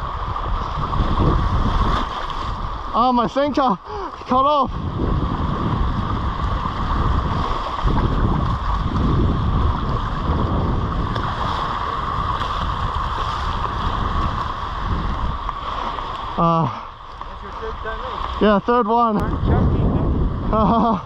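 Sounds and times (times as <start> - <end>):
surf washing: 0.0 - 21.0
wind buffeting microphone: 0.0 - 21.0.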